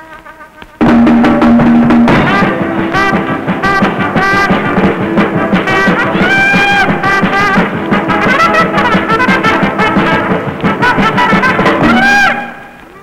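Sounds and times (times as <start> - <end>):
brass-led instrumental music: 0.0 - 13.0.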